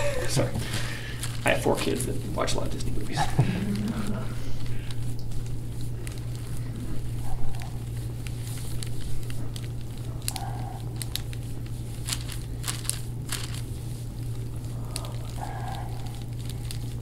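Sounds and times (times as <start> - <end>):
steady low hum: 0.0 - 17.0
crinkly rubbing: 0.1 - 17.0.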